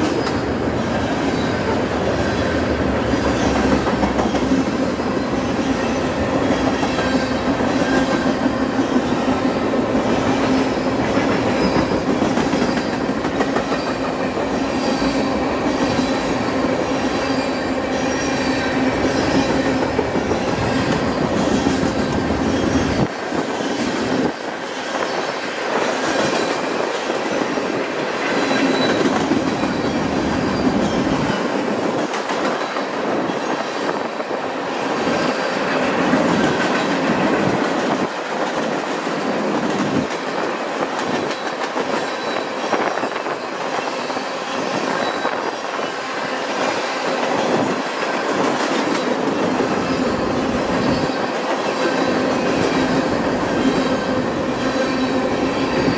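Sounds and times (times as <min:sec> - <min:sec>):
train rumble: 0:00.0 - 0:55.9
train wheels clacking: 0:00.0 - 0:55.9.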